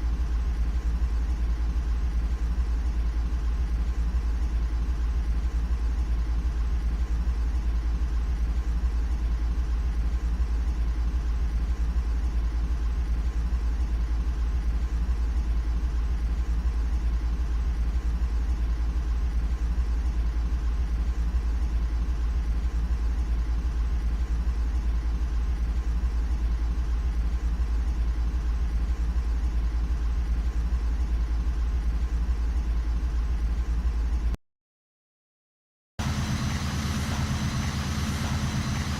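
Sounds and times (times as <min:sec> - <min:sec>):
faint hum tones: 0:00.0 - 0:34.4.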